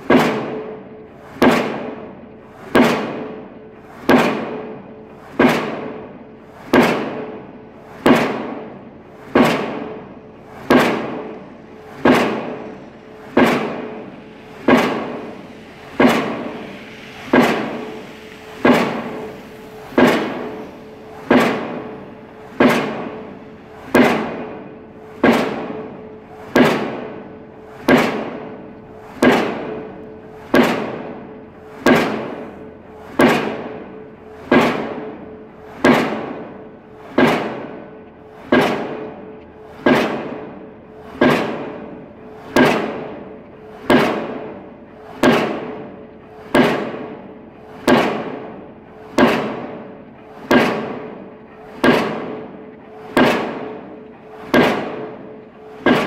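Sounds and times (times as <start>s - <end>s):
pile hammer metallic blows: 0.0s - 56.0s.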